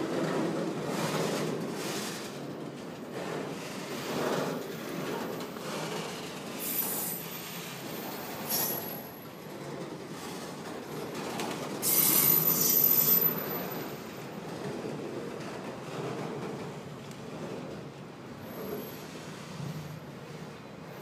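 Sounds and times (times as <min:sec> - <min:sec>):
train rumbling: 0:00.0 - 0:21.0
train wheels squealing on rails: 0:00.9 - 0:16.6, 0:17.7 - 0:21.0.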